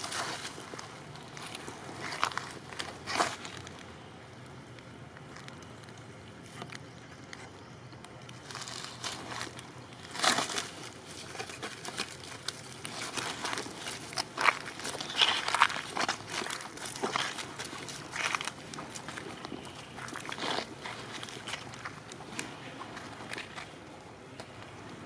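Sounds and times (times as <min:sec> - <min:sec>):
rustling and crackling: 0:00.0 - 0:25.0.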